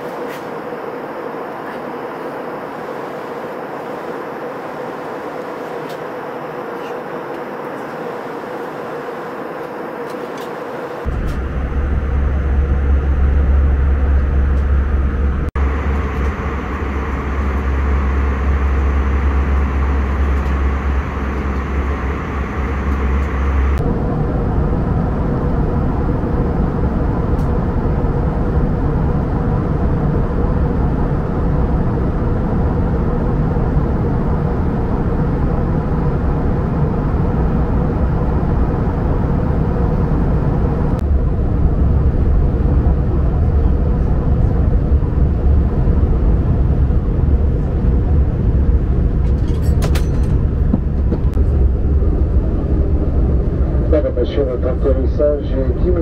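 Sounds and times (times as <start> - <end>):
aircraft cabin rumble and air rush: 0.0 - 56.0.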